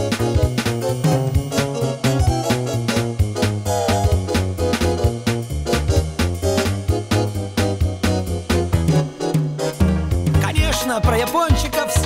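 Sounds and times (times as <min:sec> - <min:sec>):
upbeat instrumental dance music: 0:00.0 - 0:12.0.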